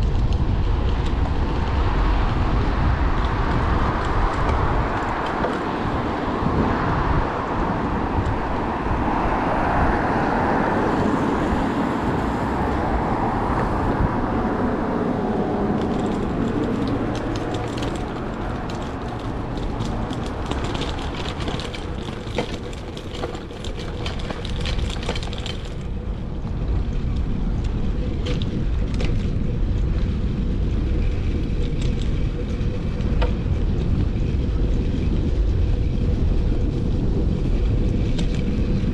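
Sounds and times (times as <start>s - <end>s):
street traffic rumble: 0.0s - 38.9s.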